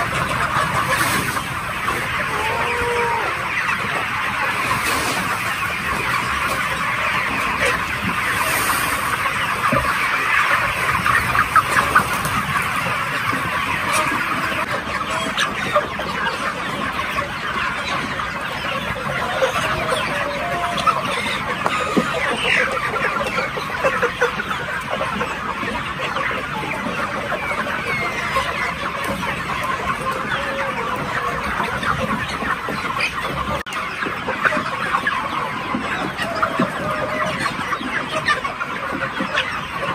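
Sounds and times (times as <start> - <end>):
flock of chickens calling: 0.0 - 39.9.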